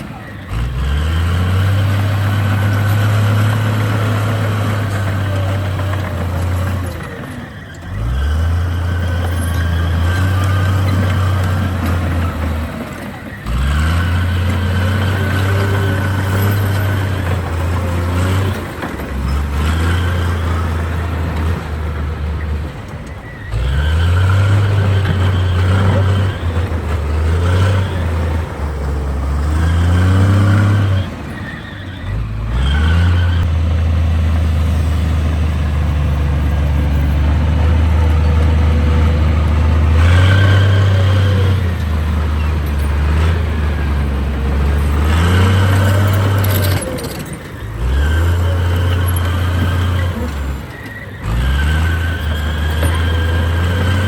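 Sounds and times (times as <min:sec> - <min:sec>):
bulldozer diesel engine revving: 0:00.0 - 0:54.0.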